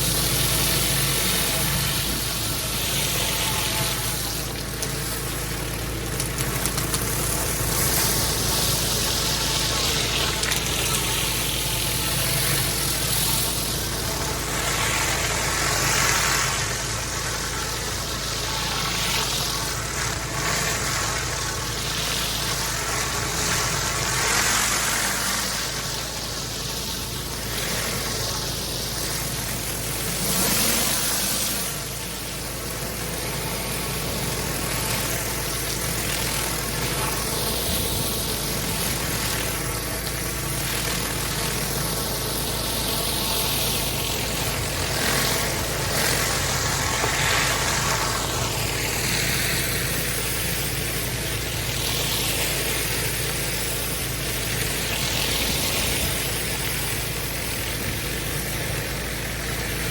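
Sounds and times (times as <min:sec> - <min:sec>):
pressure washer engine running: 0:00.0 - 0:59.9
water jet hissing on paving: 0:00.0 - 0:59.9.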